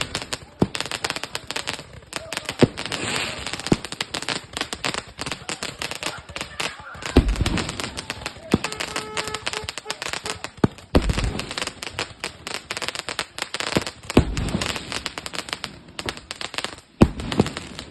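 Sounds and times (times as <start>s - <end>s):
firecrackers crackling: 0.0s - 17.9s
heavy firework bangs: 0.0s - 17.9s.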